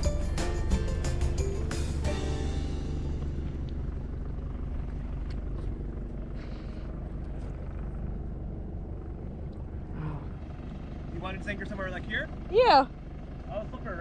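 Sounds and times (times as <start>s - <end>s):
diesel boat engine humming: 0.0s - 14.0s.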